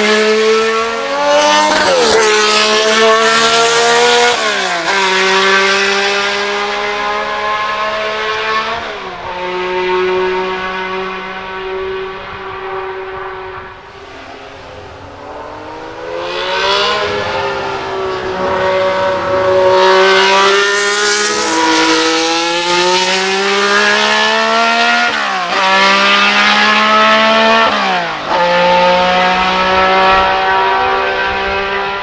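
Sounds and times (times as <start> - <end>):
racing car engine revving high: 0.0 - 32.0.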